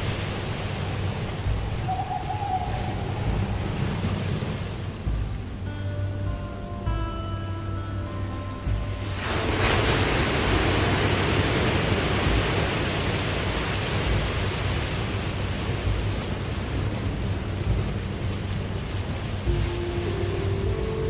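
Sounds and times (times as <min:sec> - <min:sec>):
waterfall rushing water: 0:00.0 - 0:06.9, 0:07.9 - 0:21.0.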